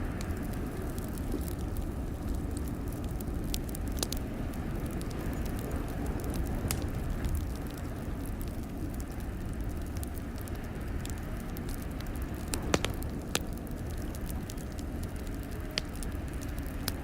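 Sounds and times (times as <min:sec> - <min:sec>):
fire crackling and popping: 0:00.0 - 0:17.0
low steady rumble: 0:00.0 - 0:17.0.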